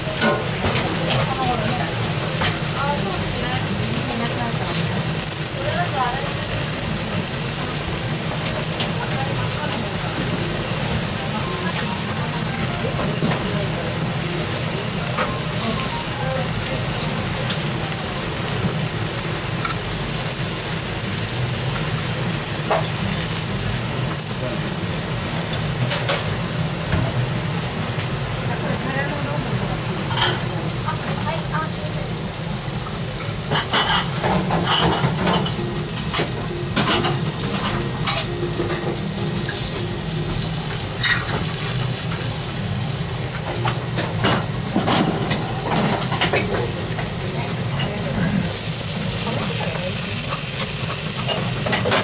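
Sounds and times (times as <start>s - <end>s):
cutlet sizzling on hot plate: 0.0s - 52.0s.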